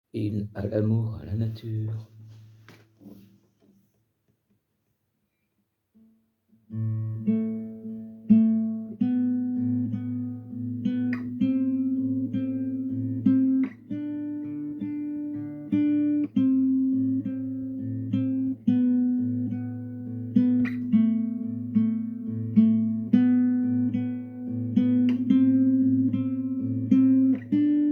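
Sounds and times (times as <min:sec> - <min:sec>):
acoustic guitar playing: 0:01.7 - 0:03.4, 0:06.0 - 0:27.9.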